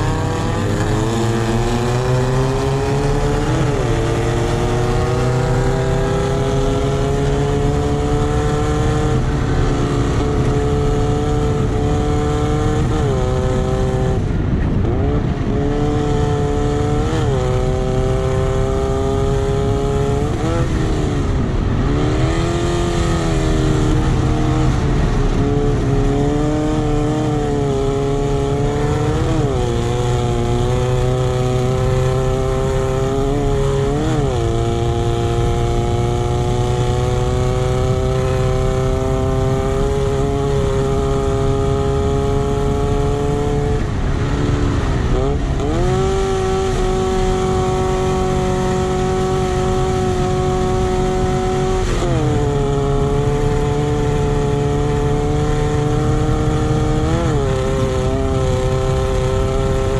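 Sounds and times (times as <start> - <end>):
dirt track rumble: 0.0 - 59.9
race buggy engine revving: 0.0 - 59.9
wind: 0.0 - 59.9.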